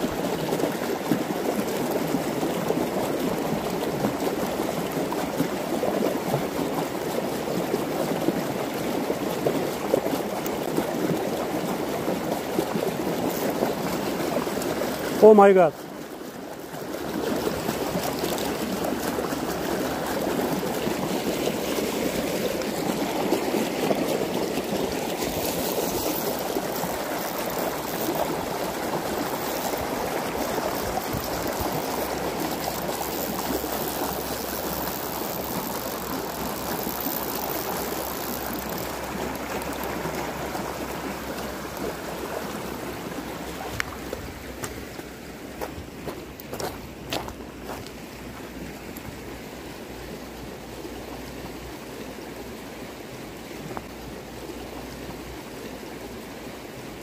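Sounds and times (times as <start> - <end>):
creek water rushing over rocks: 0.0 - 57.0.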